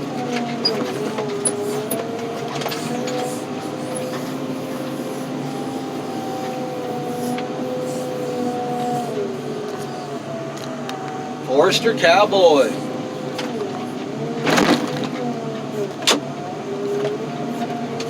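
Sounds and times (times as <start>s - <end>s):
heavy machine engine under load: 0.0s - 18.0s.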